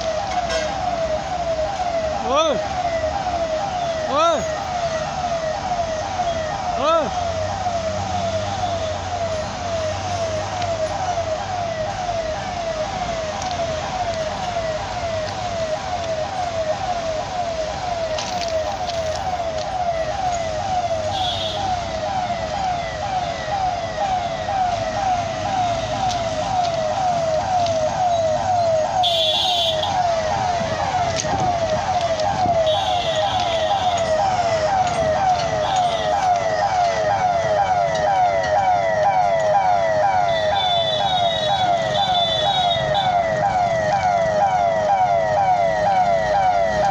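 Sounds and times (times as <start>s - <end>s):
warning siren: 0.0s - 46.9s.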